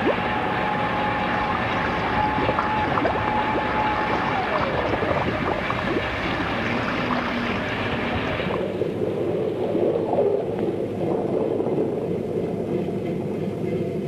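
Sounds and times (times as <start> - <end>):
muffled underwater sound: 0.0 - 14.0
water churning and splashing: 0.0 - 14.0.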